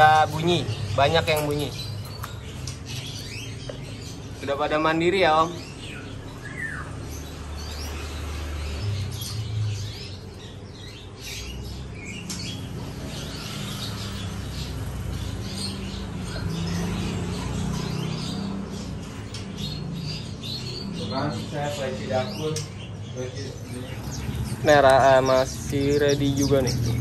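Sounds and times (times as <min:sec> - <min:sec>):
birds chirping and whistling: 0:00.0 - 0:27.0.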